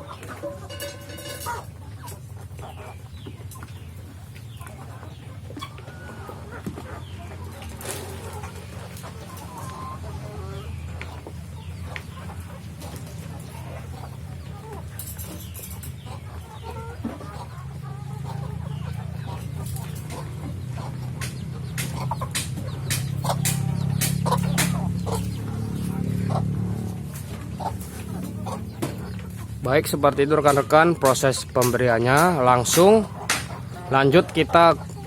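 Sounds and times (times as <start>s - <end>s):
hens clucking: 0.0s - 35.0s.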